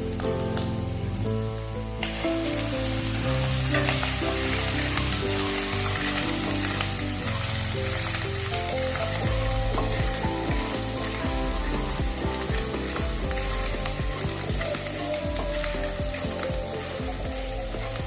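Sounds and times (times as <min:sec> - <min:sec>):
soft background music: 0:00.0 - 0:18.0
food sizzling in hot oil: 0:00.1 - 0:18.0.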